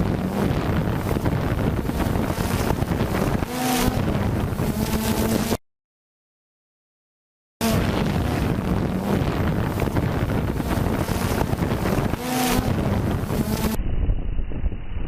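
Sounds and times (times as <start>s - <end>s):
wind buffeting microphone: 0.0s - 5.6s, 7.6s - 15.0s.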